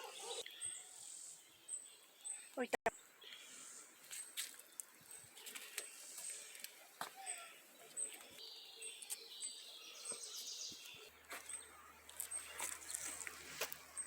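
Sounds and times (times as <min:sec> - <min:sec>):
faint outdoor background: 0:00.0 - 0:14.0
small birds chirping: 0:00.0 - 0:14.0.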